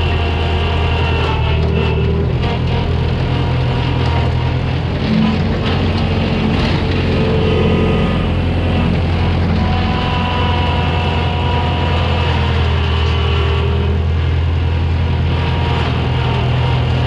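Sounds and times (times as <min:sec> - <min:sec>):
diesel engine running: 0:00.0 - 0:17.0
high-pitched whines: 0:00.0 - 0:17.0.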